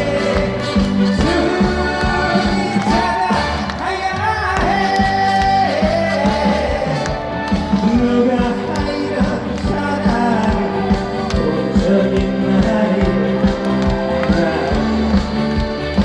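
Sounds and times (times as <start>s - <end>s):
full band accompaniment: 0.0s - 16.0s
person singing with vibrato: 0.0s - 16.0s.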